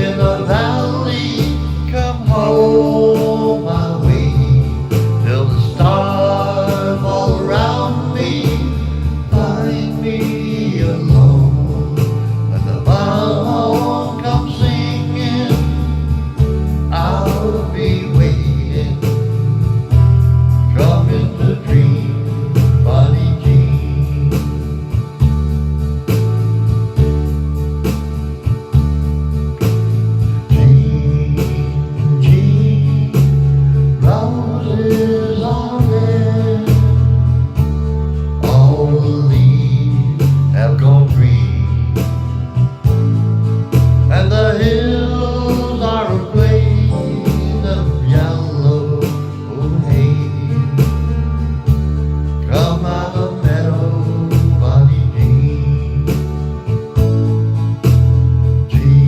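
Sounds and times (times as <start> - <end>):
blues guitar music: 0.0 - 59.0.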